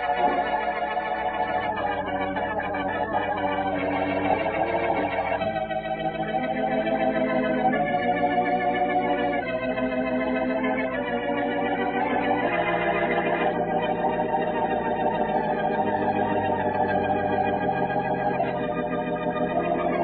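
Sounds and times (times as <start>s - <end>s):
organ chords on old radio: 0.0s - 20.0s.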